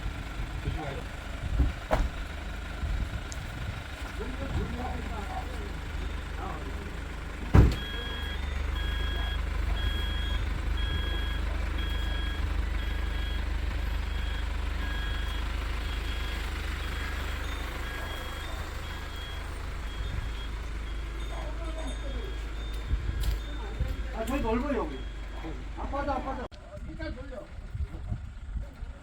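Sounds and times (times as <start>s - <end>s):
truck backup alarm beeping: 0.0s - 26.5s
truck engine rumble: 0.0s - 29.0s.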